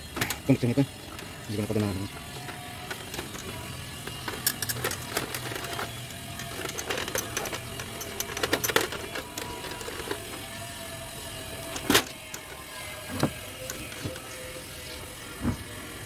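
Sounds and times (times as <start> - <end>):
small parts and tools clicking: 0.2 - 14.6.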